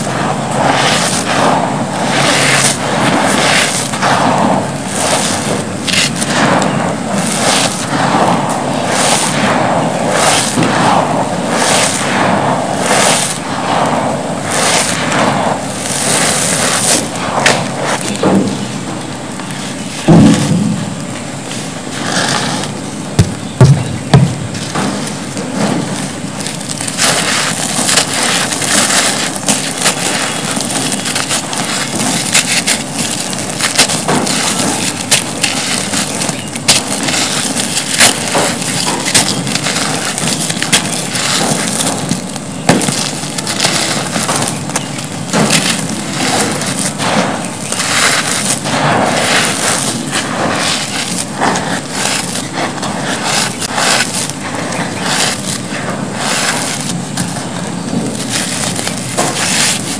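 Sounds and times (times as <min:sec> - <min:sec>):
pieces snapping crackles: 0:00.0 - 0:21.3, 0:22.0 - 0:59.9
cement clumps crunching in hands: 0:00.0 - 0:59.9.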